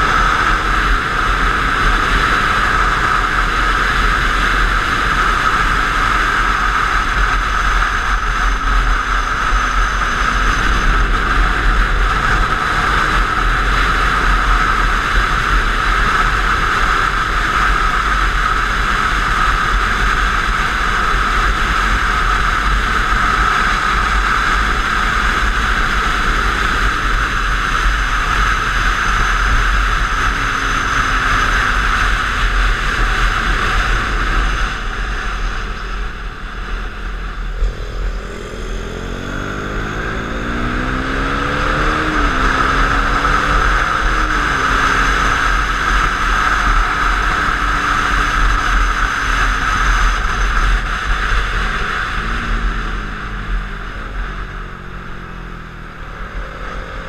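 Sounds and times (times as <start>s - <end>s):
faint motorcycle engine: 0.0s - 57.0s
wind rushing over microphone: 0.0s - 57.0s.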